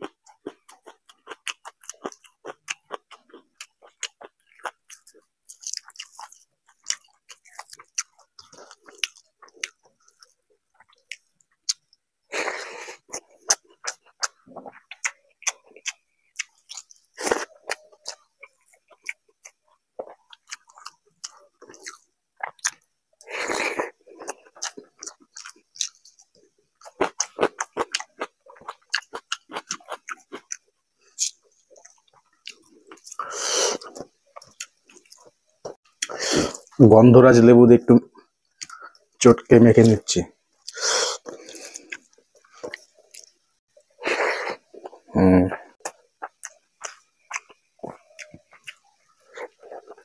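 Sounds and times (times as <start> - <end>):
close-up wet chewing: 0.0 - 36.8, 38.2 - 39.2, 40.6 - 50.0.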